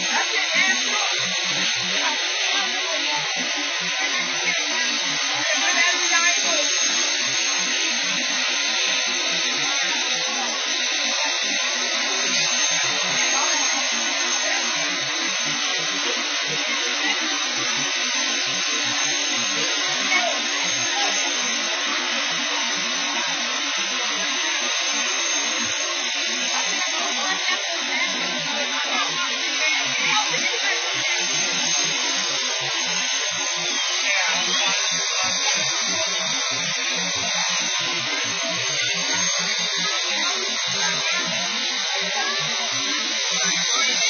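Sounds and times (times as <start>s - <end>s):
machinery whirring hiss: 0.0s - 44.0s.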